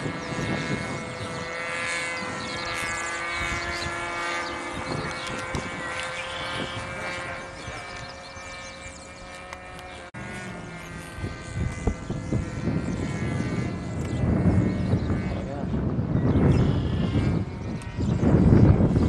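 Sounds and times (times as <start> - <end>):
model airplane engine droning: 0.0 - 19.0.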